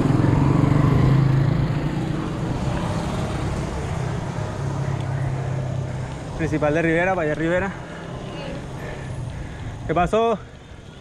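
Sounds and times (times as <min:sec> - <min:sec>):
vehicle engine hum passing: 0:00.0 - 0:09.9
road noise: 0:00.0 - 0:11.0.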